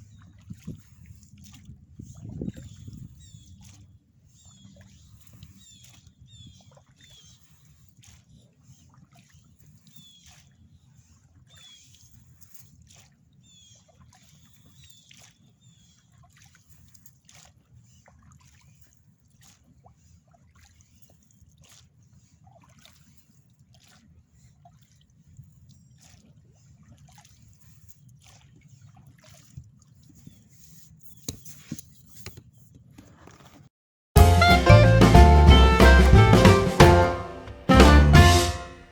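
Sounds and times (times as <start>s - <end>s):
oars splashing and dripping: 0.0s - 32.0s.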